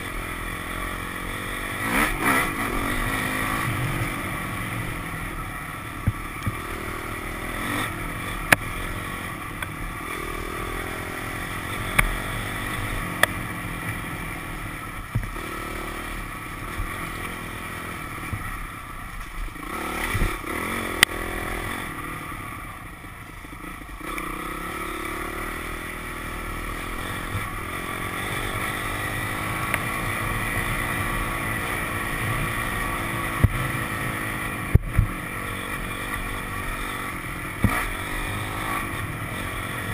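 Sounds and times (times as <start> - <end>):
dirt bike engine revving: 0.0 - 18.8, 19.5 - 22.7, 23.6 - 39.9.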